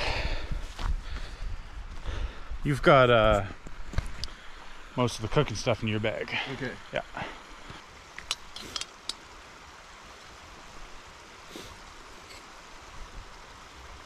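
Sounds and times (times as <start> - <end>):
faint rushing hiss: 1.3 - 14.0.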